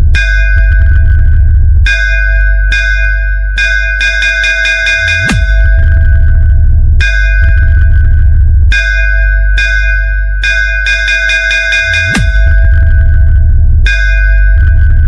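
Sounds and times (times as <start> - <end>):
bass sweep and click: 0.0 - 15.0
heavy bass: 0.0 - 15.0
metallic synth hits: 0.0 - 15.0.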